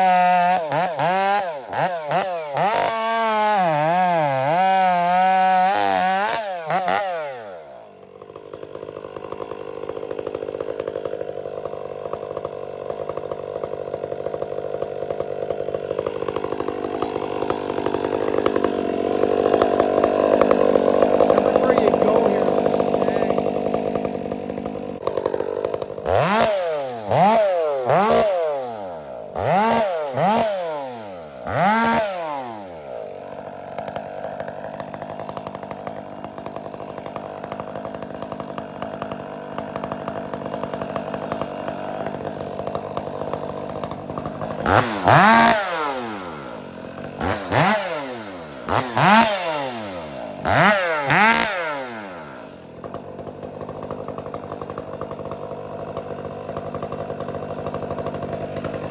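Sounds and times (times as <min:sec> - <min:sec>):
chainsaw idling and revving: 0:00.0 - 0:58.9.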